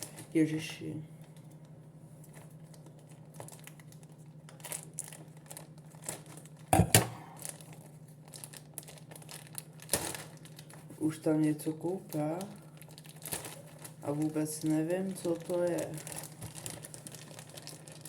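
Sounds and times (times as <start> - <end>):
packaging crinkling and rustling: 2.2 - 18.0.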